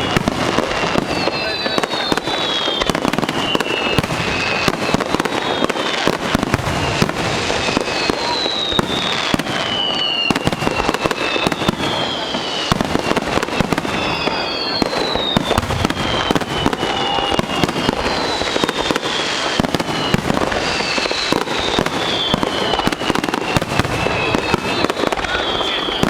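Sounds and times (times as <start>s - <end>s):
fireworks crackling: 0.0s - 26.0s
fireworks whistling: 0.0s - 26.0s.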